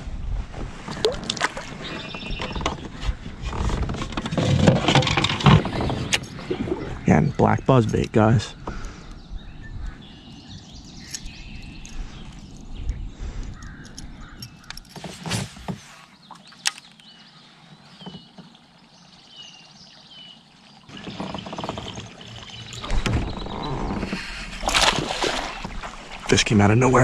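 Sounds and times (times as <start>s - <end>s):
rustling wind: 0.0s - 27.0s
water noise: 0.0s - 27.0s.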